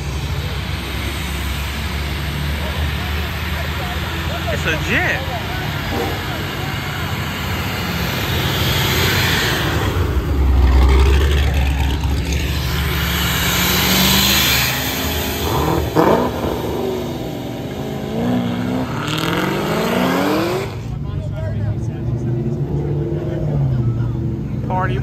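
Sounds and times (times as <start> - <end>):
cars accelerating past: 0.0 - 25.0.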